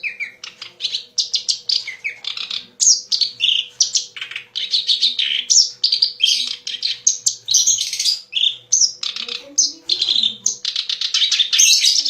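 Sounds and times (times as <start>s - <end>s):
reed warbler singing: 0.0s - 12.0s.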